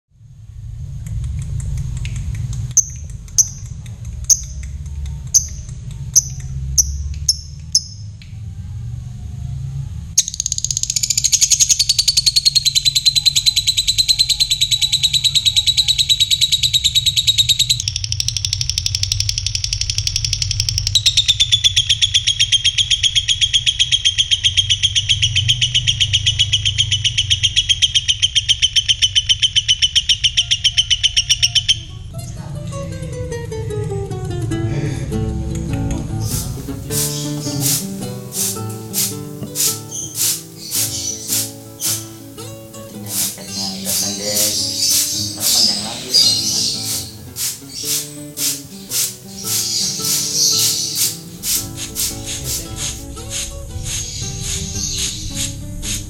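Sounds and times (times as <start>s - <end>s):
bird chattering trill: 2.8s - 8.1s, 10.2s - 31.9s, 36.2s - 55.6s
lovebird chirping: 2.8s - 8.2s, 10.2s - 32.0s, 36.2s - 55.6s.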